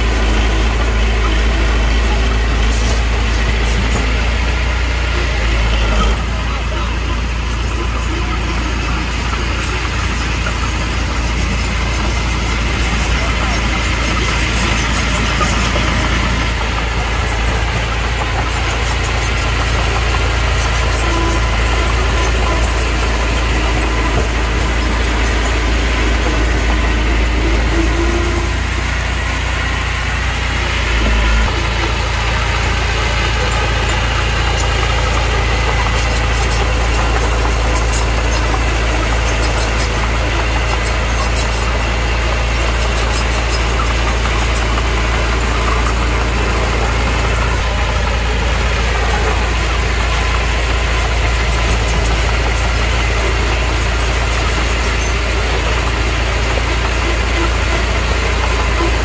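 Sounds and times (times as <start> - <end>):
diesel engine rumbling: 0.0 - 59.0.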